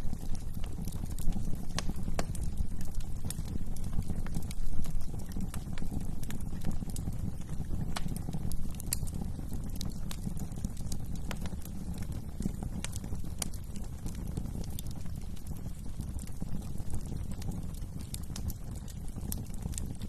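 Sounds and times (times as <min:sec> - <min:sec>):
burning logs crackling and popping: 0:00.0 - 0:20.0
low rumble of flames: 0:00.0 - 0:20.0.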